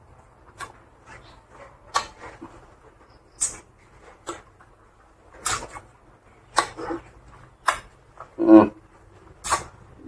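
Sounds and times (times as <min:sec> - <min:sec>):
person chewing food: 0:00.2 - 0:10.0.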